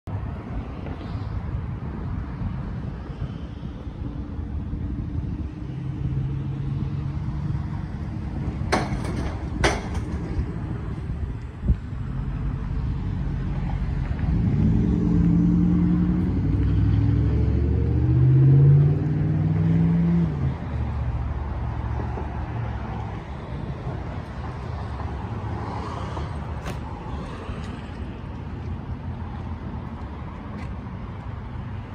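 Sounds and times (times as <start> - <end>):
vehicle engine rumbling: 0.1 - 31.9.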